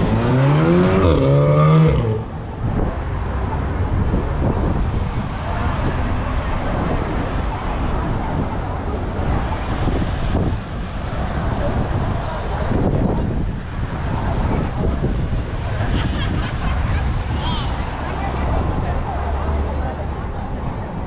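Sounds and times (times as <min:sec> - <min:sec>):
car road noise rumbling: 0:00.0 - 0:21.0
wind buffeting microphone: 0:00.0 - 0:21.0.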